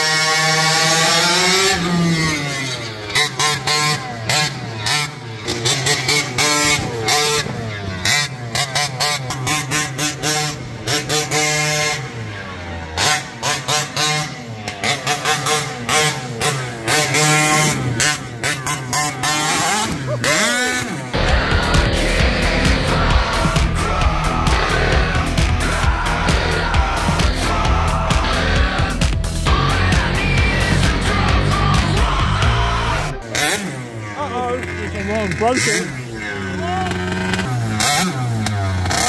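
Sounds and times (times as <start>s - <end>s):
two-stroke engine revving: 0.0s - 39.0s.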